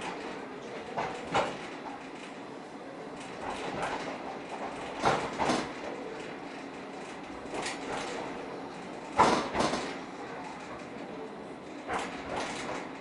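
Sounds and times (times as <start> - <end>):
train carriage rumble: 0.0 - 13.0
train clanks and rattles: 0.0 - 13.0.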